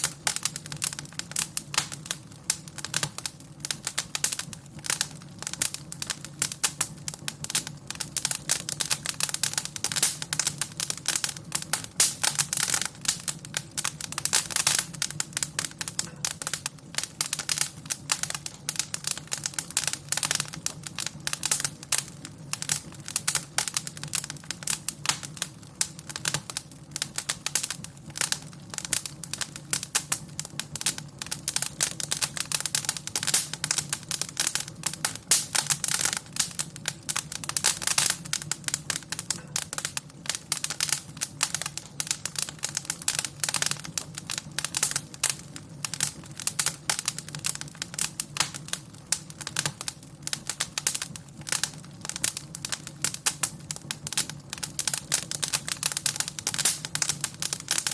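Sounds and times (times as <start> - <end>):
fire crackling in a fireplace: 0.0 - 57.9.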